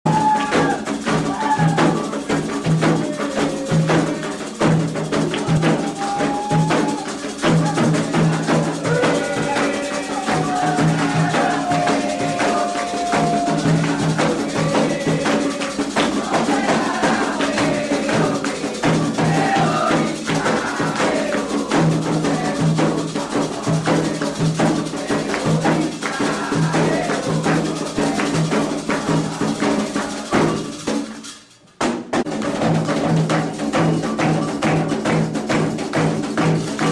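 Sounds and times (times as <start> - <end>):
hand drums beating fast rhythm: 0.0 - 36.9
chanted singing: 0.1 - 30.9
rattling and clinking percussion: 0.1 - 36.9.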